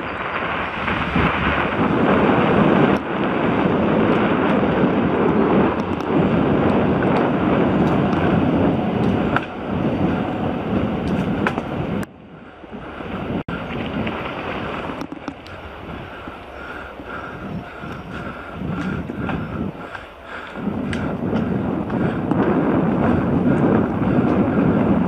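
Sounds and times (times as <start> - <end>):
bike clicks and rattles: 0.0 - 25.0
bike tyres rolling on dirt: 0.0 - 25.0
wind on microphone: 0.0 - 25.0.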